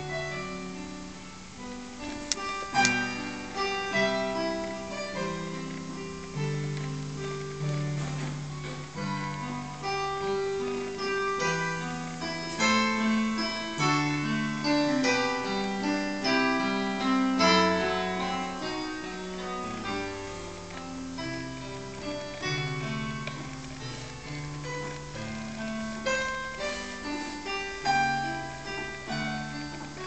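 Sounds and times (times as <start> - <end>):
solo piano piece: 0.0 - 30.0.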